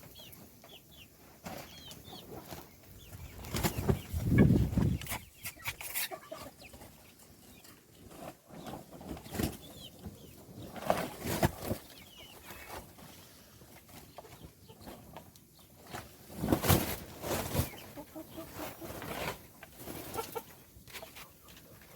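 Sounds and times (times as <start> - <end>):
baby chicks peeping: 0.0 - 21.9.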